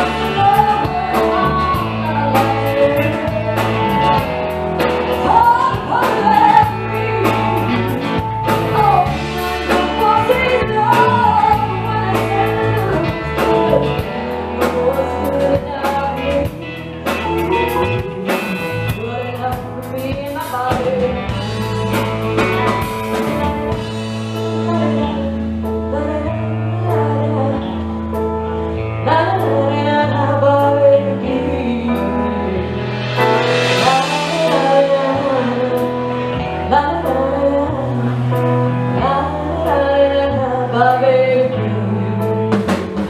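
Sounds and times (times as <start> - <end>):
drum kit: 0.0 - 25.9, 29.4 - 43.0
bass guitar: 0.0 - 43.0
electric guitars: 0.0 - 43.0
woman singing lead: 0.0 - 43.0.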